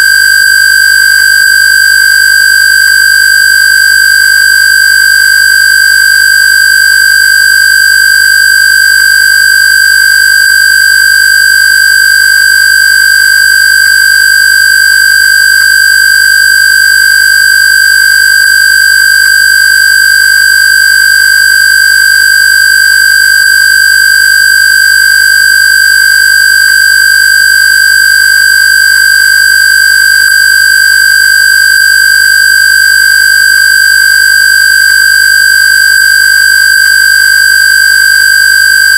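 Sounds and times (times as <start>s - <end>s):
high-pitched square-wave tone: 0.0s - 3.5s, 4.1s - 38.9s.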